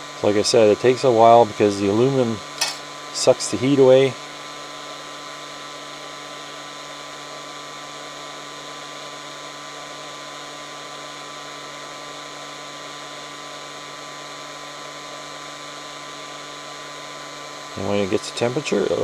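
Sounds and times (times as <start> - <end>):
heat gun fan motor whine: 0.0 - 19.0.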